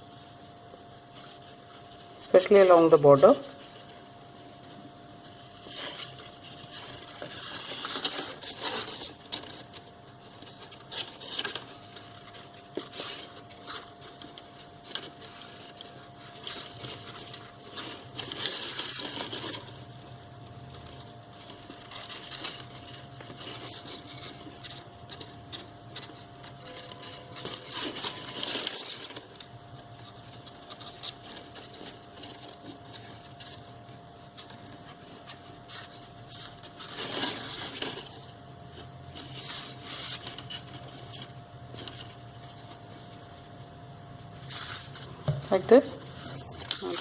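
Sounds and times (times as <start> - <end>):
faint steady hum: 0.0 - 47.0
paper rustling: 1.0 - 43.4.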